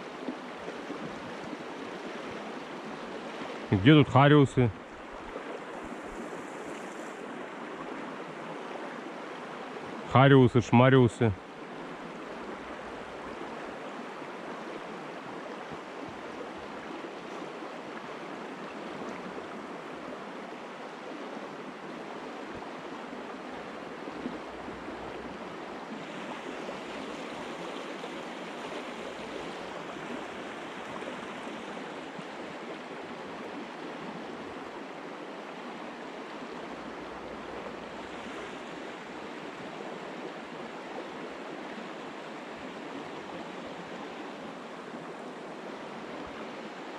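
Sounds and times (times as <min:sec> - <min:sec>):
river water rushing: 0:00.0 - 0:46.9.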